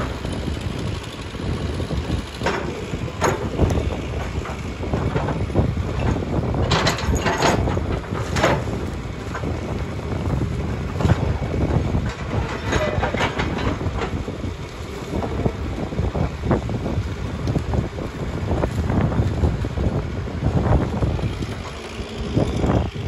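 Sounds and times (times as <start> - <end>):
branches and wood cracking: 0.0 - 23.0
excavator diesel engine under load: 0.0 - 23.0.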